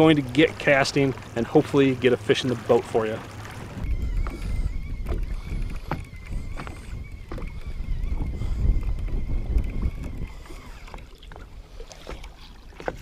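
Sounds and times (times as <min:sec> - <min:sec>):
waves lapping against boat hull: 0:00.0 - 0:13.0
wind on microphone: 0:00.0 - 0:13.0.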